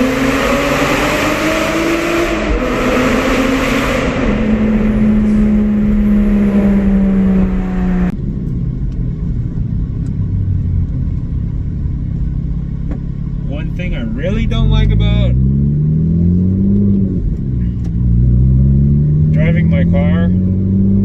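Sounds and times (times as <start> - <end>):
car engine accelerating hard: 0.0 - 8.2, 9.5 - 21.0
low engine drone: 0.0 - 21.0.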